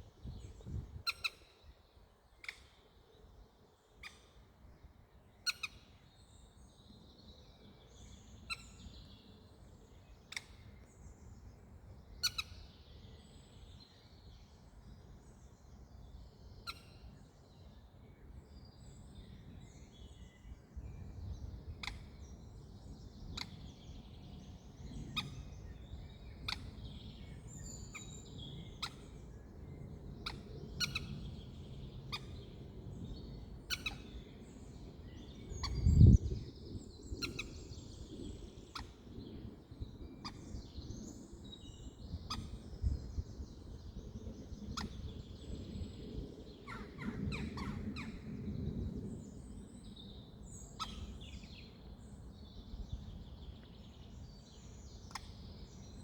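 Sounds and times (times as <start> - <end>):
low rumble of wind: 0.0 - 56.0.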